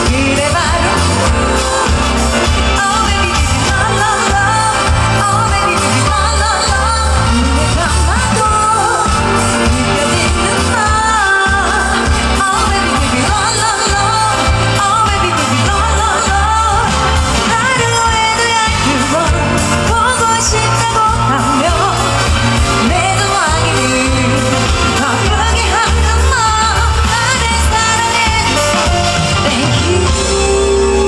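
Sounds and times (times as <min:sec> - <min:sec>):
band with pulsing bass beat: 0:00.0 - 0:31.0
woman singing pop song: 0:00.0 - 0:31.0.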